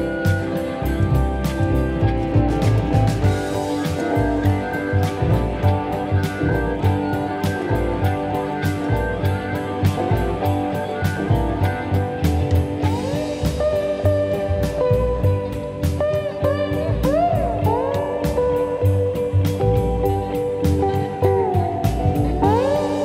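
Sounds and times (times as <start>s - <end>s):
electric guitar: 0.0s - 23.0s
steady drum beat: 0.0s - 23.0s.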